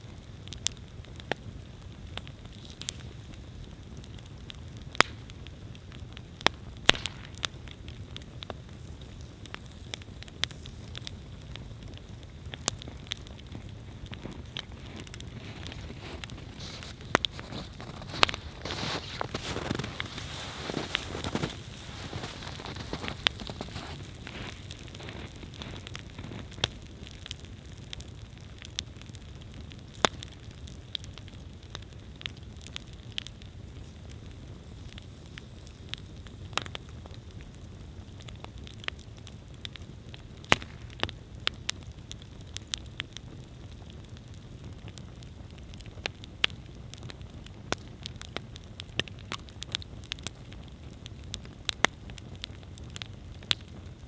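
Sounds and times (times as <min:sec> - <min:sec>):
campfire rushing: 0:00.0 - 0:54.0
wood crackling and popping: 0:00.0 - 0:54.0.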